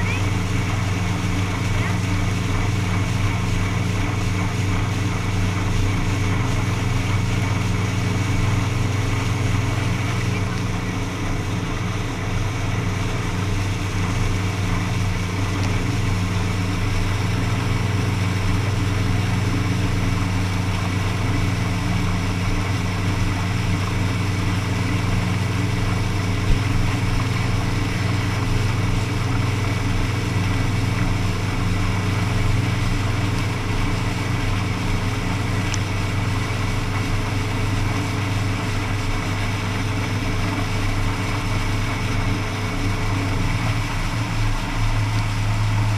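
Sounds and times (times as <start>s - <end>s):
motorboat engine running: 0.0s - 45.9s
water spray rushing along hull: 0.0s - 45.9s.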